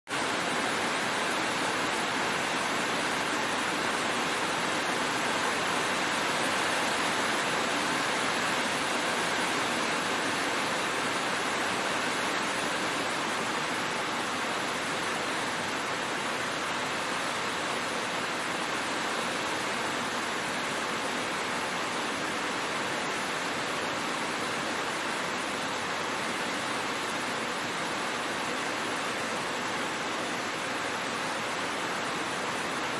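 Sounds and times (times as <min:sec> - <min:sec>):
heavy rain on a road: 0:00.1 - 0:32.9.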